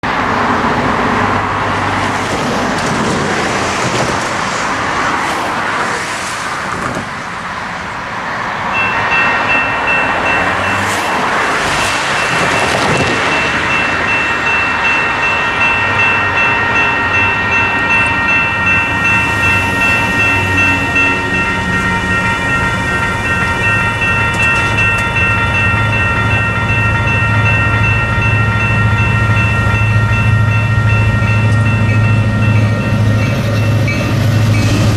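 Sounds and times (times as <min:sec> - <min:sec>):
railroad crossing bell ringing: 0:00.0 - 0:03.8, 0:07.3 - 0:34.9
diesel freight train rumble: 0:00.0 - 0:34.9
road traffic passing: 0:00.0 - 0:34.9.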